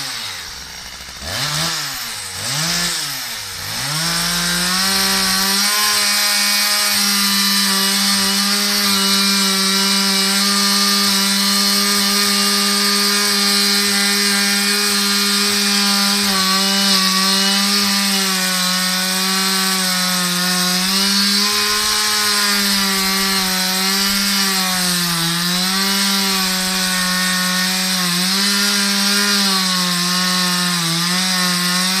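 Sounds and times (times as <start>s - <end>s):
chainsaw running at high revs: 0.0s - 32.0s.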